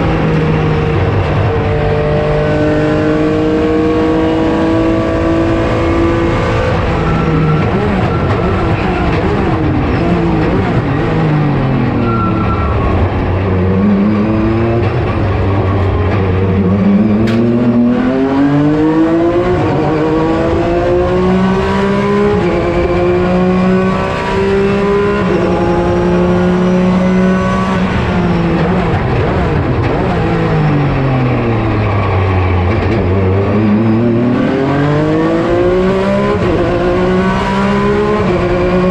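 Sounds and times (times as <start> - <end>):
racing car engine: 0.0 - 38.9.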